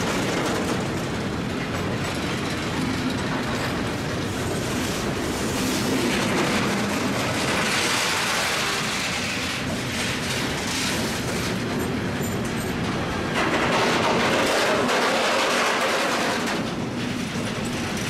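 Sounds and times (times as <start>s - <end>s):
train rolling past: 0.0s - 18.0s.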